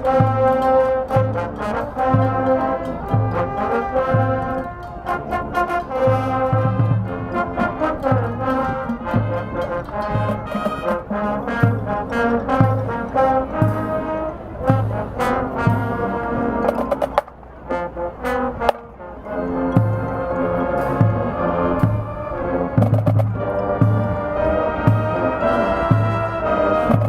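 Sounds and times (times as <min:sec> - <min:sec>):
brass section holding chords: 0:00.0 - 0:27.0.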